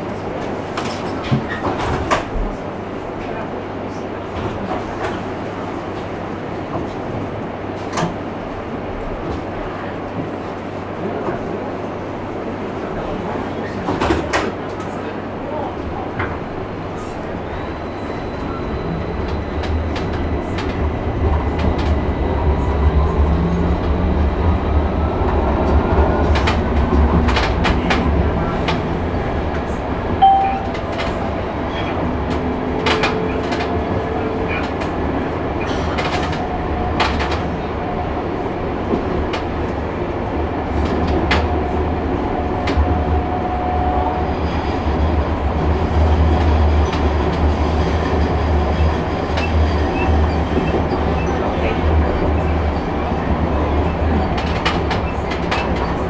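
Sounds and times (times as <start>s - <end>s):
rising train whine: 0.0s - 56.0s
train low rumble: 0.0s - 56.0s.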